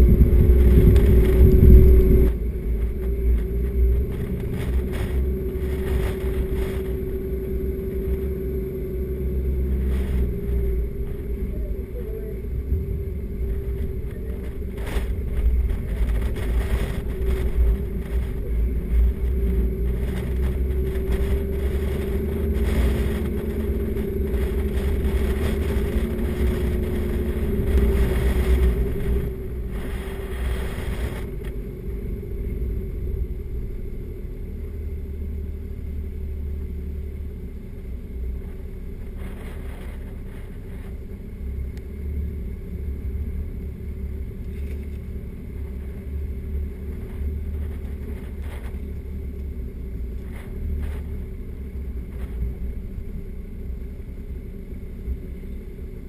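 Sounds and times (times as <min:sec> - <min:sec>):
low rumble of tyres on sand: 0:00.0 - 0:56.0
vehicle engine drone: 0:00.0 - 0:56.0
wind noise: 0:00.0 - 0:56.0.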